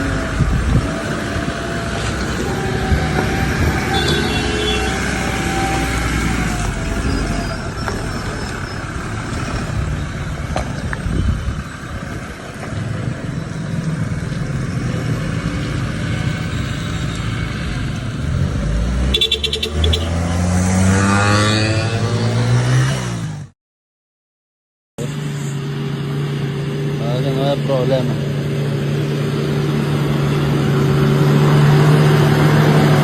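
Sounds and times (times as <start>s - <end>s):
engine running and revving: 0.0s - 23.6s, 25.0s - 33.0s.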